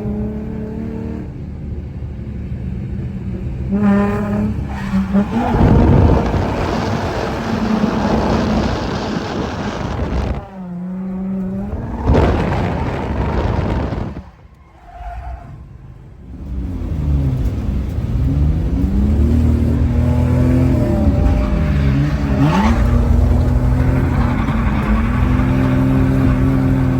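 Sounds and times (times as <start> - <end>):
car engine revving: 3.0 - 26.9
tyres skidding: 3.5 - 26.9.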